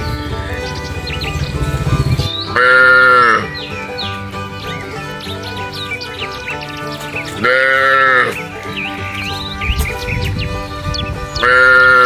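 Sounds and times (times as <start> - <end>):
background music with held notes: 0.0 - 12.0
high bird-like chirps: 0.6 - 12.0.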